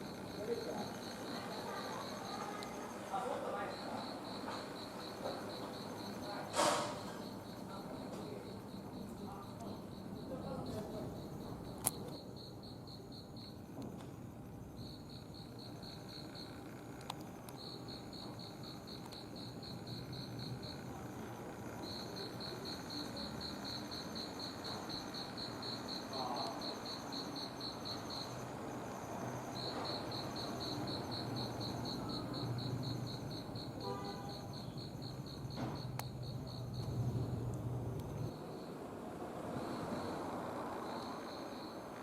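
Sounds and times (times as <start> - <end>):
crickets chirping: 0.0 - 42.0.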